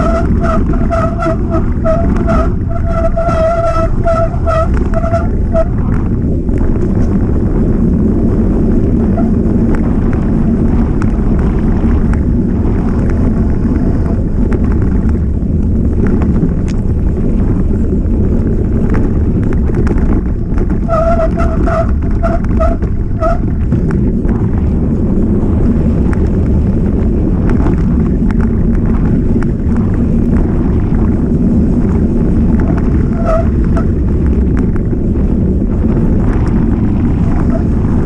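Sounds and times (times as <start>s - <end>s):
bike frame rattle: 0.0s - 38.0s
tyre rumble: 0.0s - 38.0s
wind on microphone: 0.0s - 38.0s.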